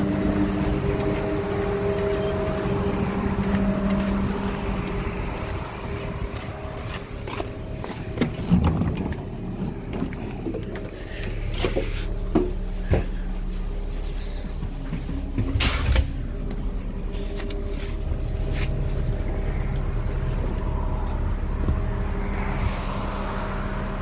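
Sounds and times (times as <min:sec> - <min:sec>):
diesel railcar engine running: 0:00.0 - 0:24.0.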